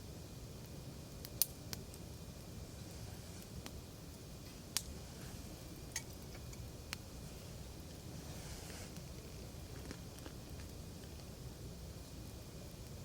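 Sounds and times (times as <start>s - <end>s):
campfire crackling: 0.0s - 13.0s
low steady rumble: 0.0s - 13.0s
sharp pops of burning wood: 0.4s - 13.0s.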